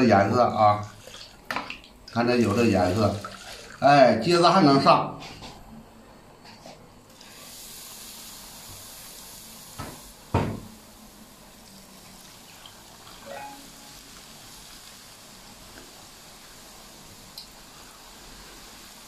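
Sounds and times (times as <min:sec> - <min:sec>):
hot oil sizzling: 0:00.0 - 0:04.2, 0:07.1 - 0:19.0.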